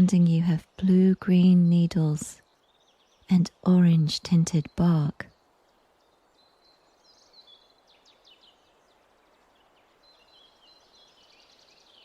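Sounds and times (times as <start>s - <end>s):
soft background hiss: 0.0s - 12.0s
songbirds chirping and trilling: 0.0s - 12.0s.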